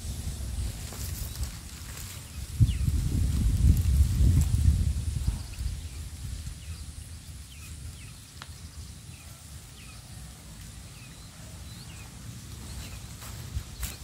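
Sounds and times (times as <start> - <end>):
small birds chirping: 0.3 - 14.0.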